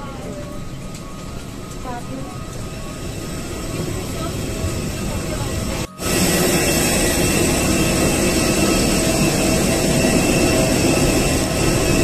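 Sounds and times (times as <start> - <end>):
jet turbine running: 0.0 - 12.0.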